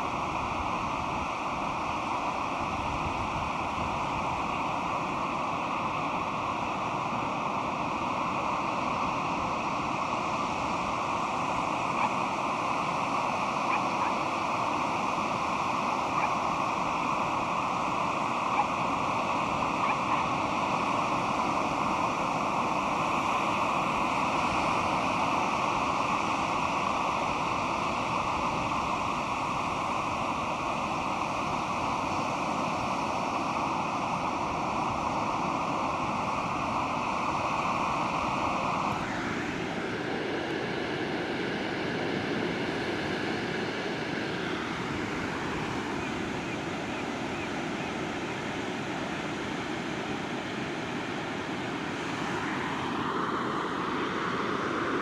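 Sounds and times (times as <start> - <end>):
surf washing on sandy beach: 0.0 - 55.0.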